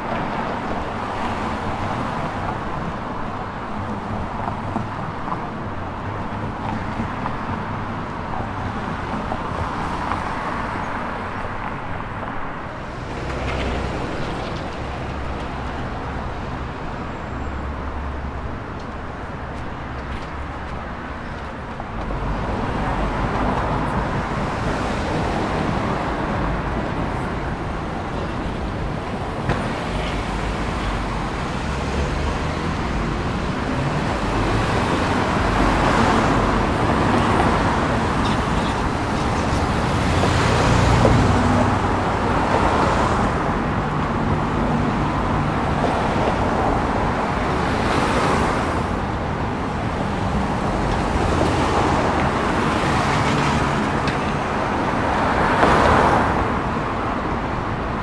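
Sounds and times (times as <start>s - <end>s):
car engines and tyre noise: 0.0s - 58.0s.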